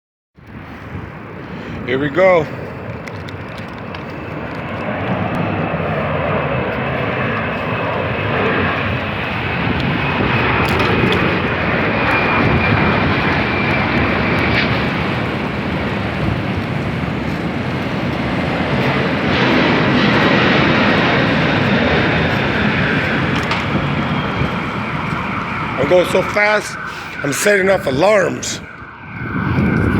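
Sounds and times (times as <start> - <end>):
wind and road noise: 0.4 - 29.9.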